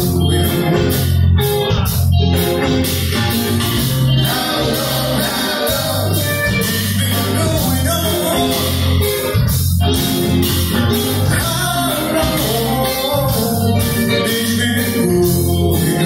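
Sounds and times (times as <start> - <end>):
bass guitar: 0.0 - 16.0
drum kit beat: 0.0 - 16.0
electric guitars: 0.0 - 16.0
keyboards: 0.0 - 16.0.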